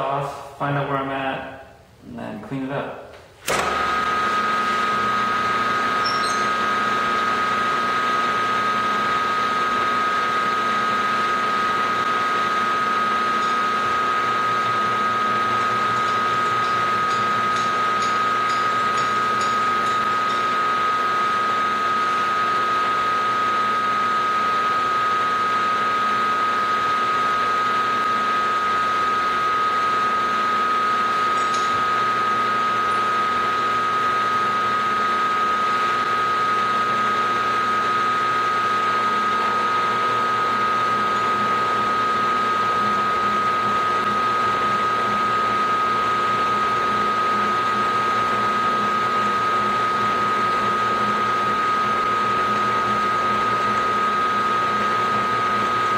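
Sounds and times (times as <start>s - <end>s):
milling machine cutting metal: 3.5s - 23.4s, 29.6s - 55.9s.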